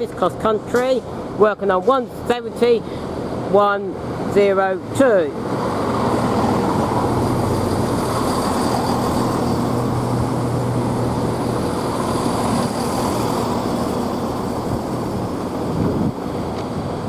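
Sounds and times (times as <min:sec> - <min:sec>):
train engine idling: 0:00.0 - 0:17.0.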